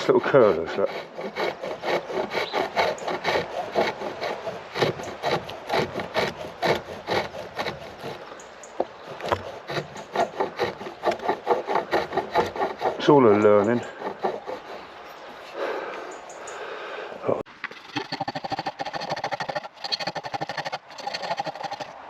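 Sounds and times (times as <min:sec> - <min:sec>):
lathe tool scraping wood: 0:00.0 - 0:08.3, 0:09.0 - 0:15.8, 0:17.7 - 0:22.0.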